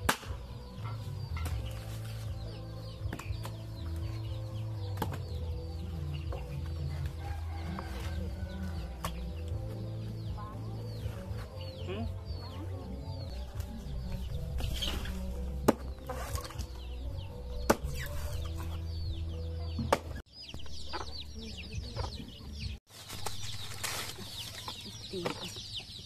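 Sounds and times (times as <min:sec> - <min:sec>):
chickens clucking and chirping: 0:00.3 - 0:26.0.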